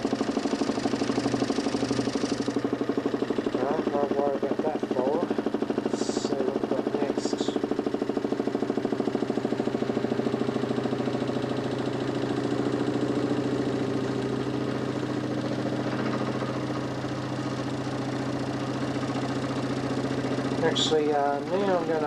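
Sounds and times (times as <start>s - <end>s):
motor humming with pulsing flutter: 0.0s - 22.0s.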